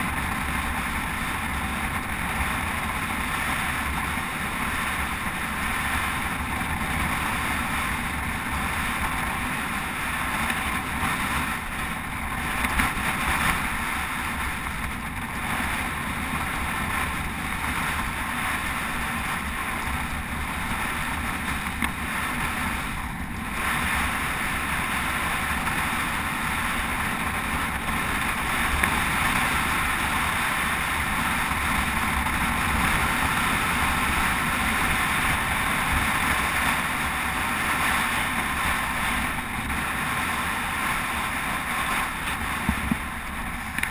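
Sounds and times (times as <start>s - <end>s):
low road rumble: 0.0s - 43.9s
wind rushing on microphone: 0.0s - 43.9s.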